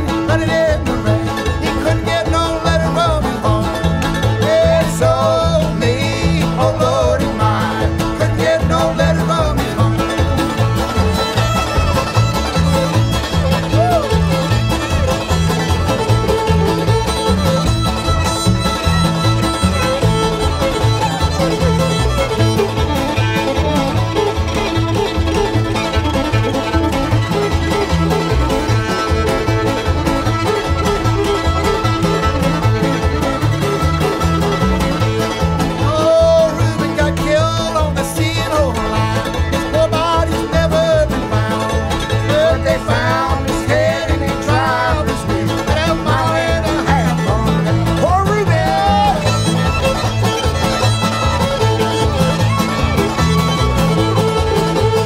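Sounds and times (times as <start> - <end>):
fiddle melody: 0.0 - 55.0
string band playing: 0.0 - 55.0.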